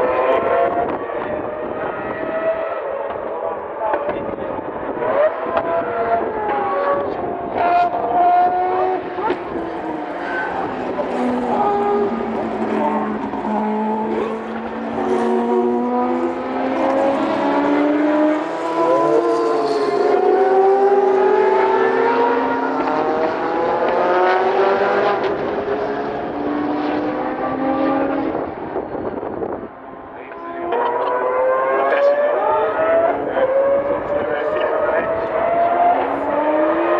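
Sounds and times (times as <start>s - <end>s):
race car engines revving: 0.0s - 36.9s.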